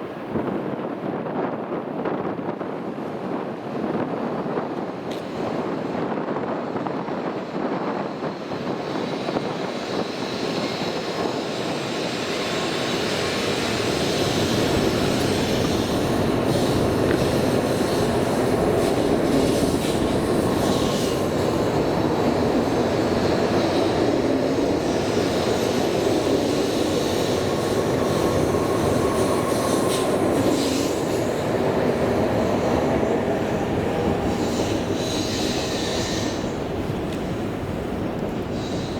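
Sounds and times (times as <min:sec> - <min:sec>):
train wheels rumbling: 0:03.6 - 0:38.9.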